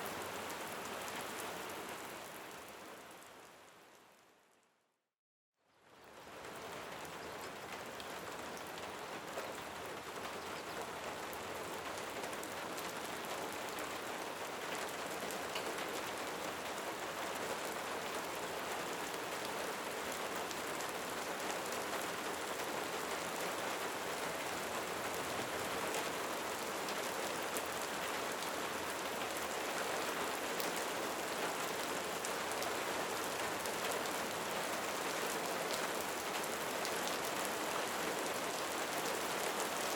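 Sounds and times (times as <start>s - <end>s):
steady rain falling: 0.0s - 4.5s, 5.8s - 39.9s.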